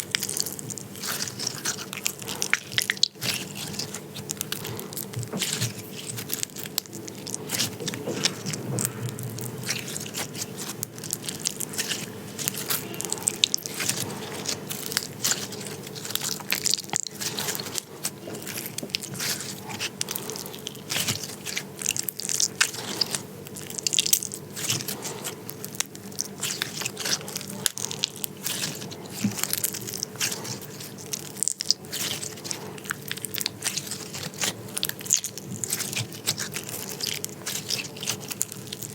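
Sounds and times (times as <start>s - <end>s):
slime squelching and crackling: 0.0s - 38.9s.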